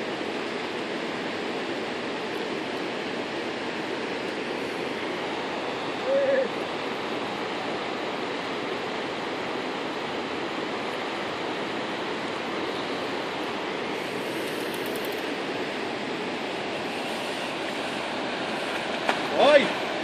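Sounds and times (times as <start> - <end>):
river rushing over rapids: 0.0 - 20.0.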